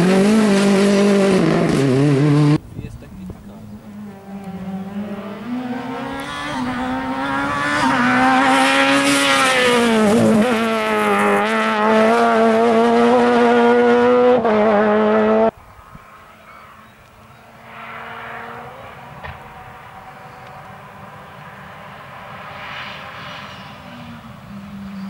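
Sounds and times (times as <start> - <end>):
rally car engine at full throttle: 0.0 - 25.0.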